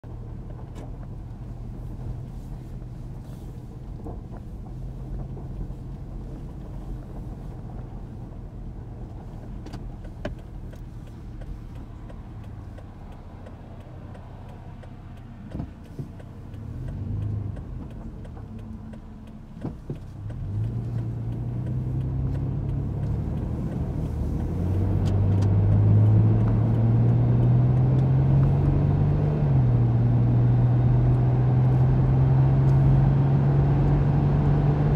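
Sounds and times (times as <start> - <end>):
vehicle engine accelerating: 0.0 - 34.9.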